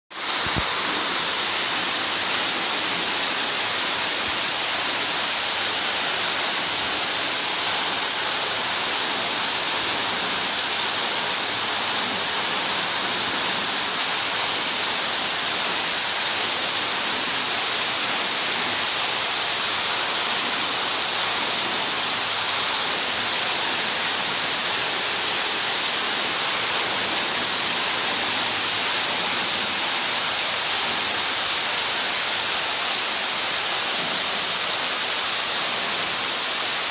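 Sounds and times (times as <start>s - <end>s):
small waterfall pouring: 0.1s - 36.9s.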